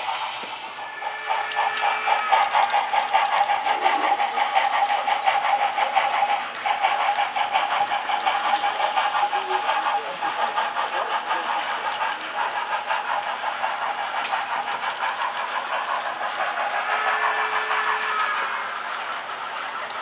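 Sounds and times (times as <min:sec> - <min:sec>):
model train locomotive pulsing tone: 0:00.0 - 0:20.0.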